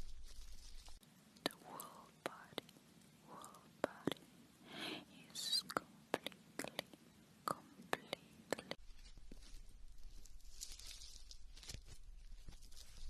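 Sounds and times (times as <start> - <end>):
soft hiss: 0.0 - 13.0.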